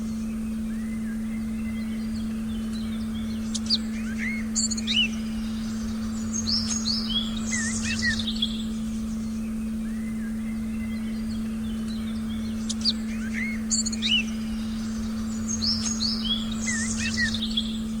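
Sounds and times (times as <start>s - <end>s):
birds chirping: 0.0s - 18.0s
steady low tone: 0.0s - 18.0s.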